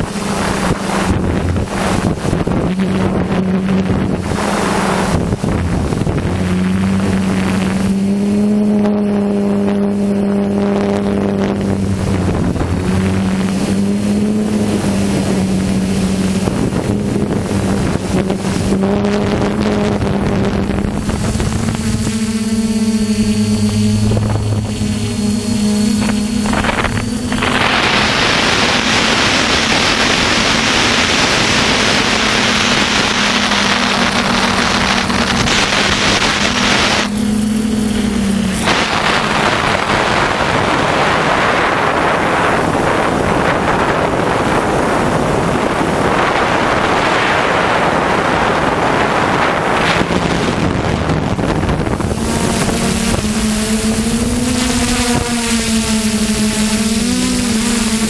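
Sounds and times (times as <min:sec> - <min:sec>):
drone motors humming: 0:00.0 - 0:58.0
wind rushing over microphone: 0:00.0 - 0:58.0.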